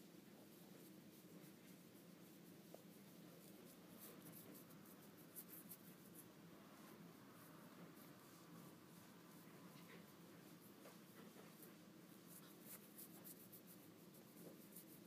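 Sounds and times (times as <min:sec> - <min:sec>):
faint room hum: 0:00.0 - 0:15.0
scratchy rustling: 0:00.0 - 0:15.0.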